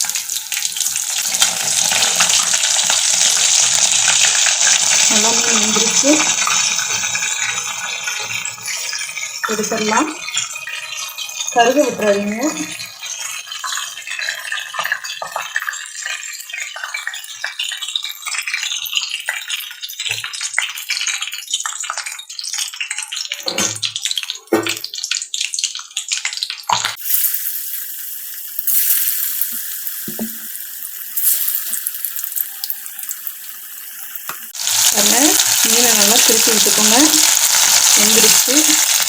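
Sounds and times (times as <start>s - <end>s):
fish frying in oil: 0.0s - 39.0s.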